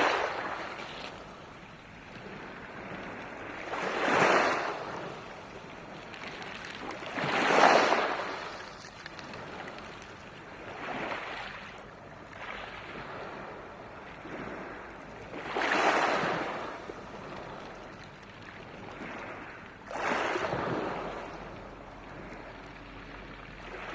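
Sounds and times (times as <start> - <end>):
waves breaking on pebbles: 0.0 - 23.9.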